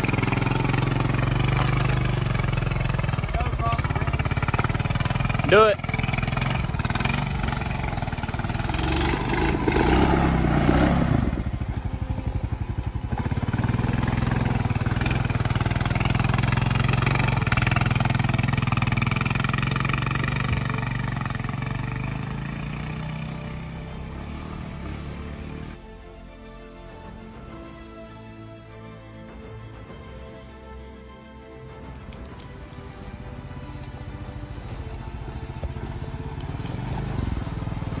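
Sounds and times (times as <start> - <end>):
atv engine climbing under load: 0.0 - 25.9, 31.7 - 38.0.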